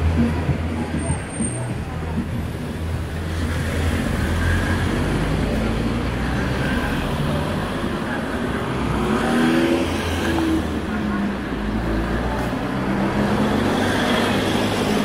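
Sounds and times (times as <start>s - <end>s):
car passing on street: 0.0s - 15.0s.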